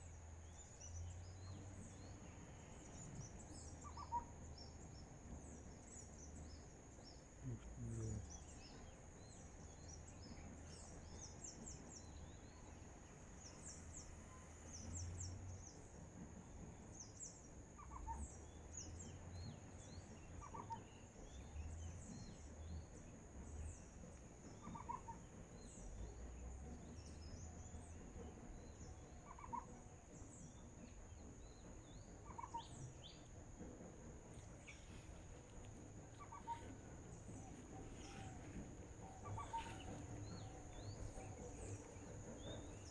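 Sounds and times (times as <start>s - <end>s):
steady high-pitched whine: 0.0s - 42.9s.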